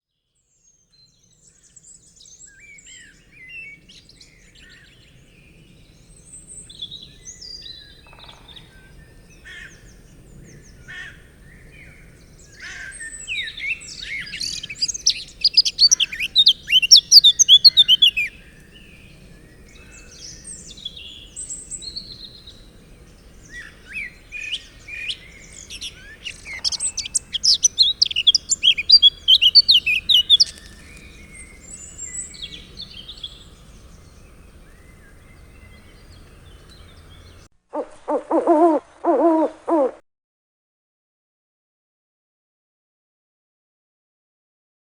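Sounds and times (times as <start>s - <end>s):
songbirds chirping and singing: 1.3s - 39.9s.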